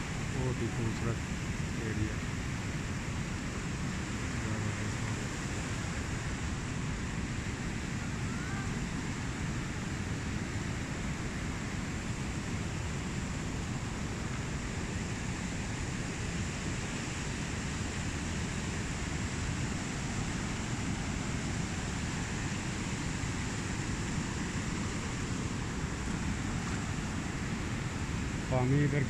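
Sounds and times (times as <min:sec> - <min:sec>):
river rushing over rocks: 0:00.0 - 0:29.0.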